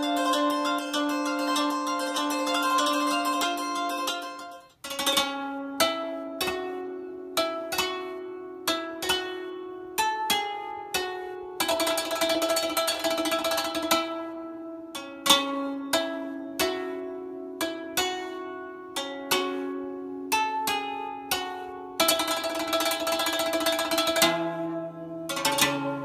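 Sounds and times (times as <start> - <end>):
plucked string instrument notes: 0.0 - 26.0.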